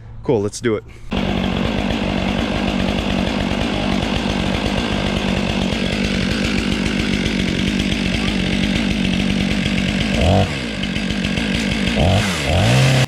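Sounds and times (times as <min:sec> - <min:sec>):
chainsaw cutting log at high revs: 0:01.1 - 0:13.0.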